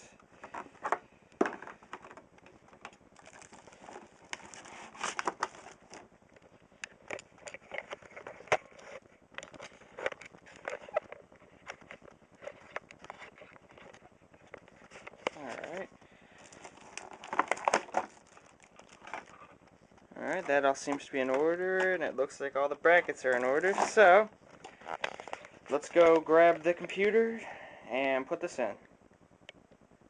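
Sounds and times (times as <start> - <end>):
plastic packaging crinkling: 0.4 - 27.4.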